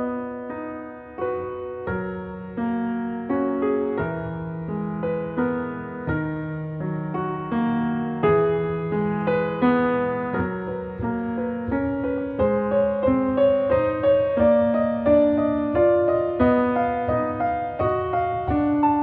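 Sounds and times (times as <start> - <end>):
soft piano melody: 0.0 - 19.0.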